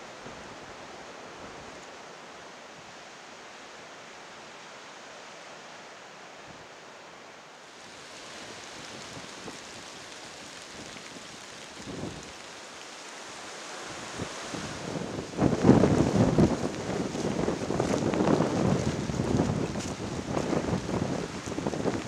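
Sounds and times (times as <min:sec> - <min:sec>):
rain: 0:00.0 - 0:22.0
wind: 0:00.0 - 0:22.0.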